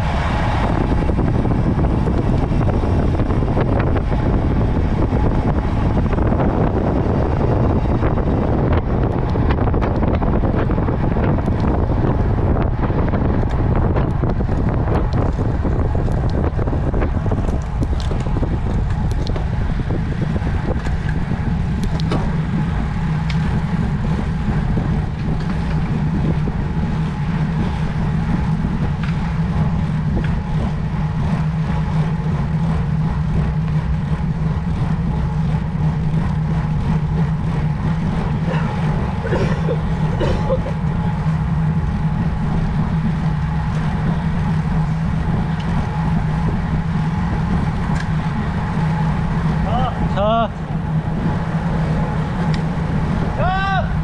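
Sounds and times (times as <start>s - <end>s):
bicycle road noise: 0.0s - 54.0s
low steady hum: 0.0s - 54.0s
wind noise on microphone: 0.0s - 54.0s.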